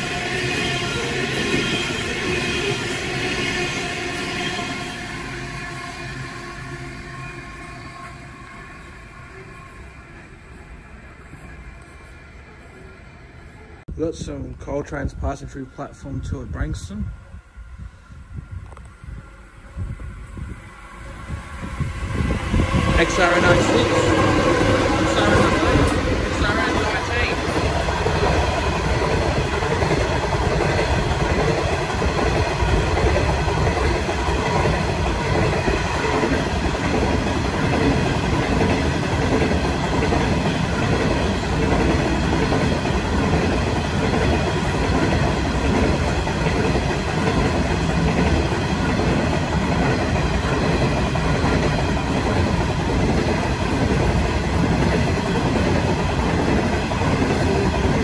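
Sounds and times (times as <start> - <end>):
train wheels rumbling on rails: 0.0 - 17.1, 17.7 - 58.0.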